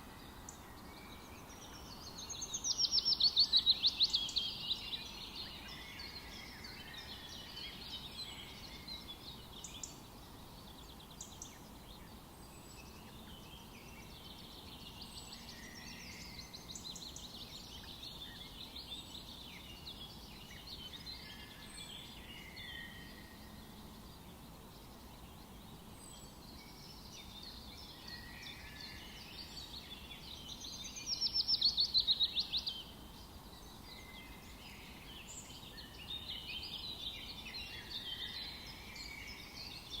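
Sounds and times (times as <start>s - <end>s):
birds singing and calling: 0.0s - 40.0s
faint background hiss: 0.0s - 40.0s.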